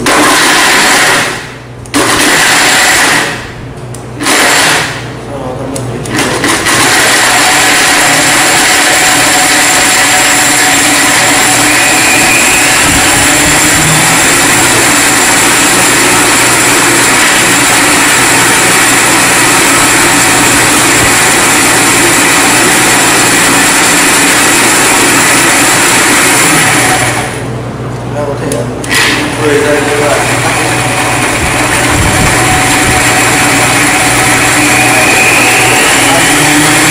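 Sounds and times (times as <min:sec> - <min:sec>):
blender whirring: 0:00.0 - 0:05.2, 0:06.0 - 0:27.6, 0:28.8 - 0:36.9.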